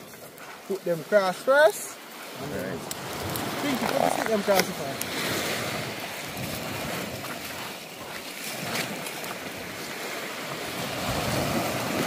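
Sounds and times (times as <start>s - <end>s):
sea waves: 0.0s - 12.0s
wind: 0.0s - 12.0s.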